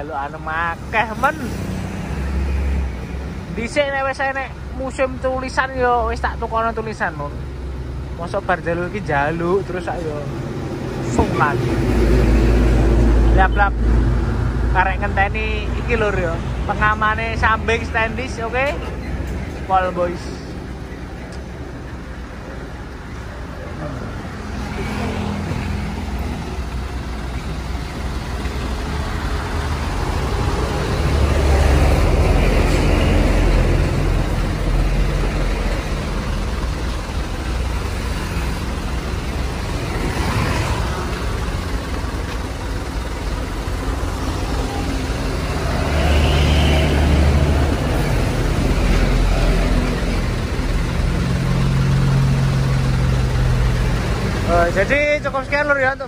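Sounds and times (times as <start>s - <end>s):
diesel truck engine idling: 0.0s - 56.0s
road traffic passing: 0.0s - 56.0s.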